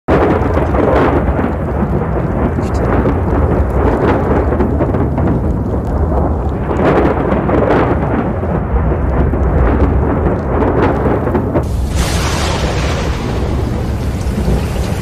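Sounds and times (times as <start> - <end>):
rain: 0.1 - 15.0
wind rumble: 0.1 - 15.0.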